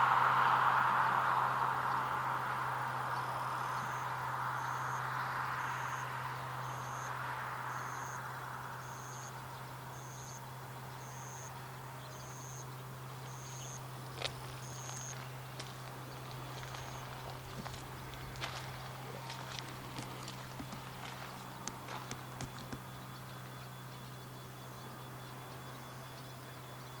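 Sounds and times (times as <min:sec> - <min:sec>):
steady low hum: 0:00.0 - 0:27.0
vehicle noise: 0:00.0 - 0:27.0.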